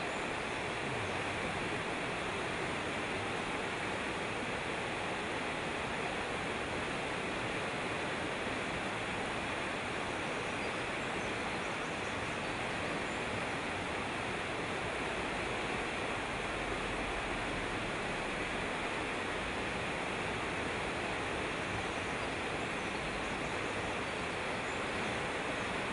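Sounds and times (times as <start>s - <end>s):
stream rushing over rocks: 0.0s - 25.9s.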